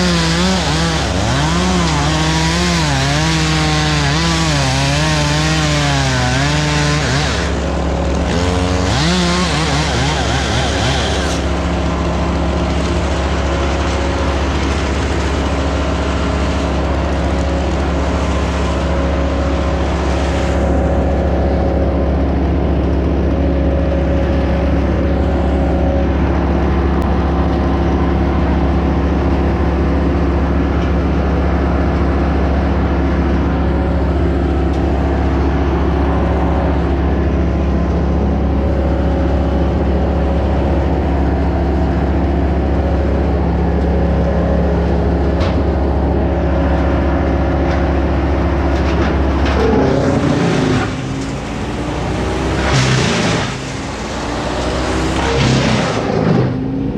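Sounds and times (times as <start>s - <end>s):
large engine running: 0.0s - 56.9s.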